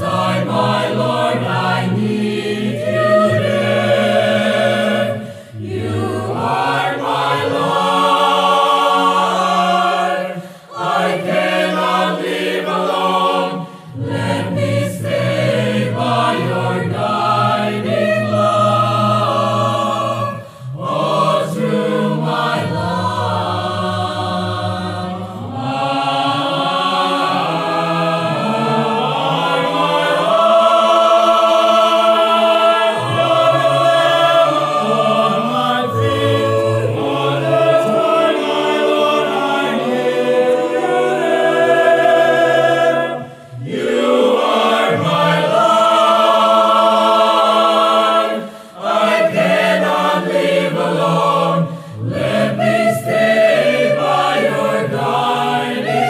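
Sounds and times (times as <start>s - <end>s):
mixed choir singing in harmony: 0.0s - 56.0s.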